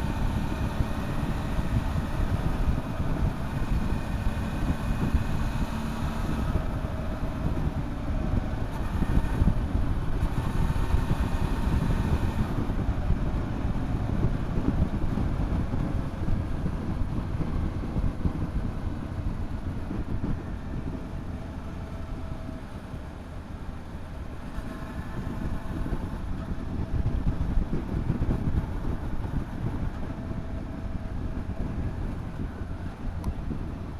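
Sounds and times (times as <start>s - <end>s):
wind rumble on microphone: 0.0s - 33.9s.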